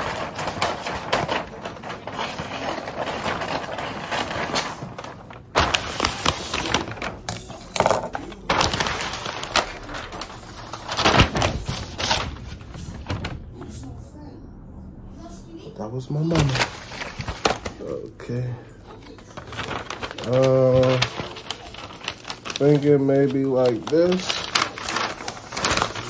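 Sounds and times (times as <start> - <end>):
paper crackles and knocks: 0.0 - 13.7, 16.3 - 18.1, 19.0 - 26.0
wrapping paper rustling: 0.0 - 13.7, 16.3 - 26.0.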